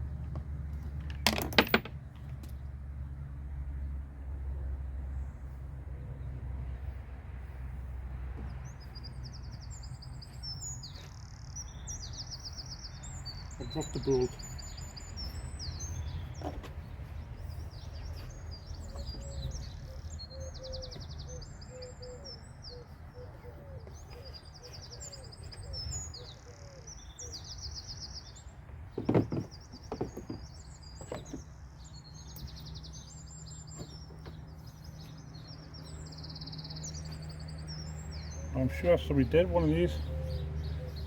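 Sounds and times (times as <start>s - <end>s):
birds trilling and chirping: 4.8s - 41.0s.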